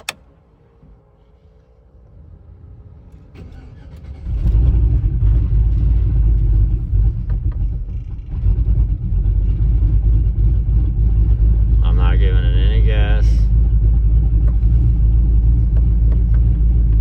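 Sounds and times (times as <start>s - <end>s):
car engine starting and idling: 0.0s - 17.0s.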